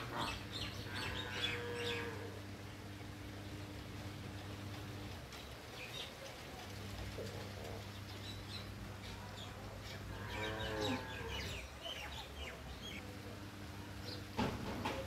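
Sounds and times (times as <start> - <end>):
small birds chirping: 0.0 - 2.3, 3.0 - 14.4.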